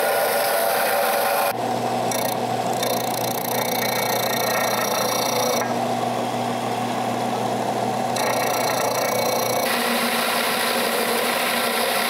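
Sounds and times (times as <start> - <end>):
sander motor hum: 0.0 - 12.0.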